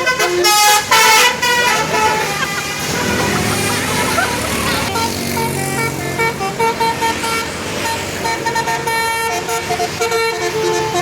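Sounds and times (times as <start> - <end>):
bus engine humming: 0.0 - 11.0
bus horn playing melody: 0.0 - 11.0.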